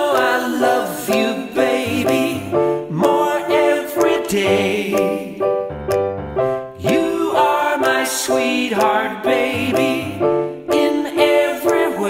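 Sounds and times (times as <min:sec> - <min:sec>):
background music with short notes: 0:00.0 - 0:12.0.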